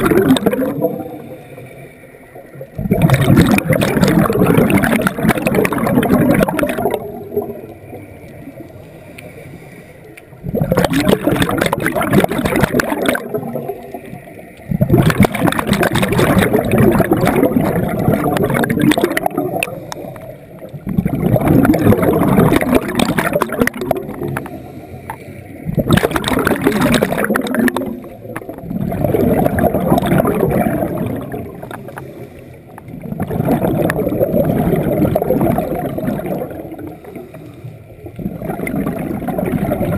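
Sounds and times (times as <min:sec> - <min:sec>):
underwater exhaust bubbles gurgling: 0:00.0 - 0:39.9.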